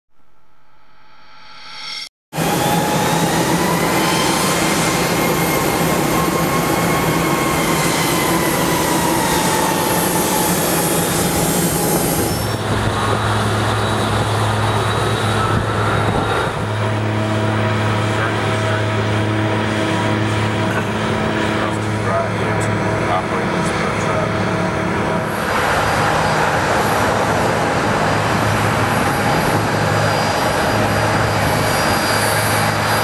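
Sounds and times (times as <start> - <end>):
heavy machinery running: 2.4 - 33.0.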